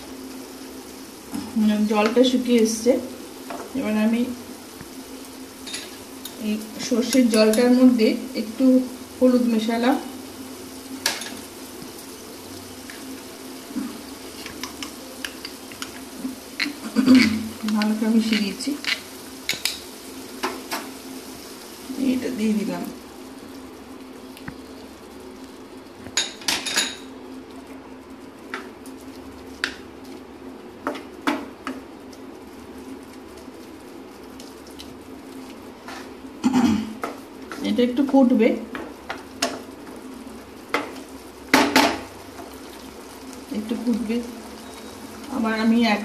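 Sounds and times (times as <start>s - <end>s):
vegetables sizzling in pan: 0.0s - 46.0s.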